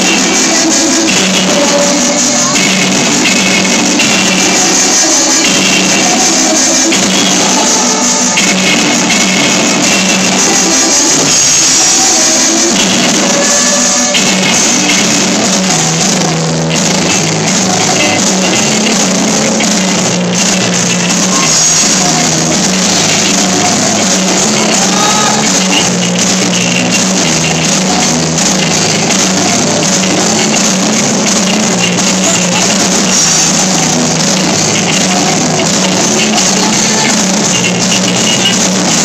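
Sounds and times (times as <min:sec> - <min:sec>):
drum kit: 0:00.0 - 0:39.0
electric guitars: 0:00.0 - 0:39.0
person singing: 0:00.0 - 0:39.0.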